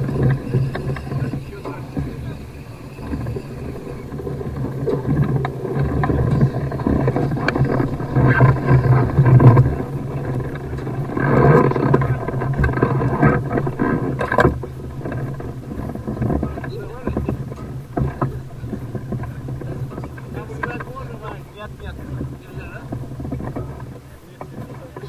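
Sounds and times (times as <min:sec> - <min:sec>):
basket scraping along ground: 0:00.0 - 0:25.0
wind buffeting microphone: 0:00.0 - 0:25.0.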